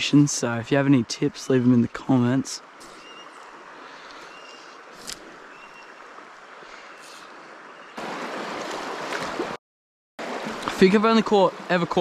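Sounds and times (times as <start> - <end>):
mountain stream flowing: 0.0 - 9.6, 10.2 - 12.0.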